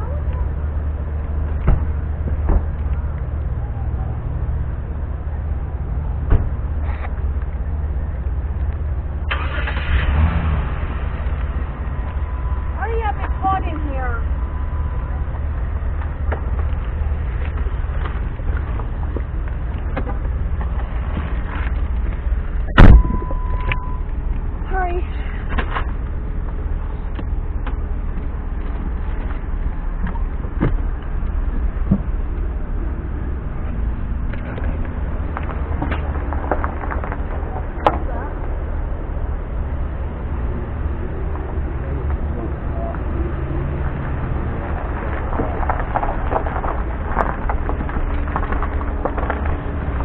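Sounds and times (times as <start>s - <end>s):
low engine rumble: 0.0s - 50.0s.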